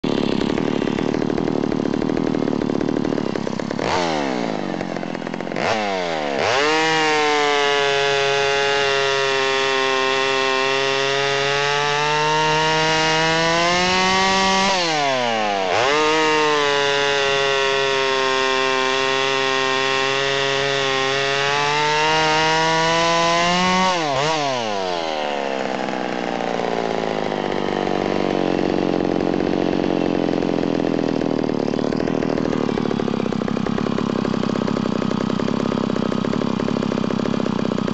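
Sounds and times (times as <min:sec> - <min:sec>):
chainsaw cutting through log: 0:00.0 - 0:37.9.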